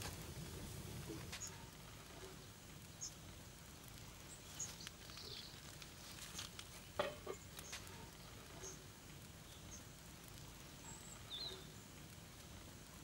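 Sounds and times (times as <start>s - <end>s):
pot boiling: 0.0s - 13.0s
wood fire crackling: 0.0s - 13.0s.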